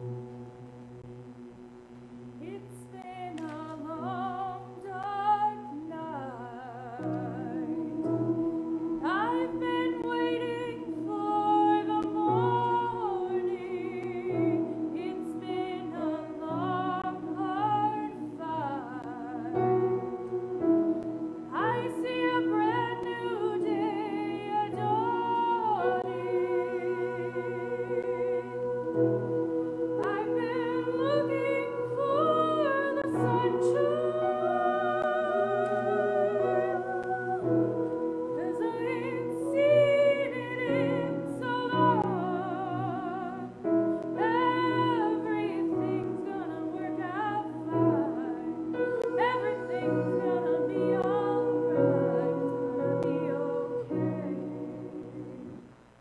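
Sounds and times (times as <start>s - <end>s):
choir singing: 3.0s - 55.7s
piano accompaniment: 3.4s - 55.7s.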